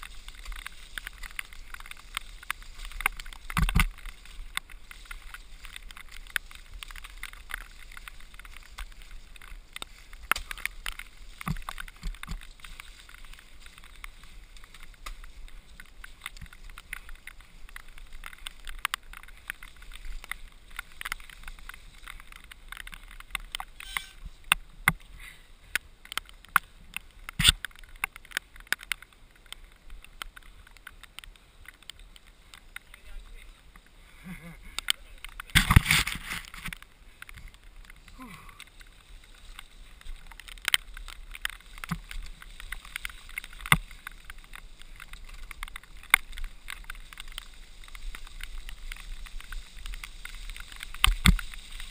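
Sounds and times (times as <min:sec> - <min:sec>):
bike rattling over bumps: 0:00.0 - 0:51.9
bike tyres rolling on dirt: 0:00.0 - 0:51.9.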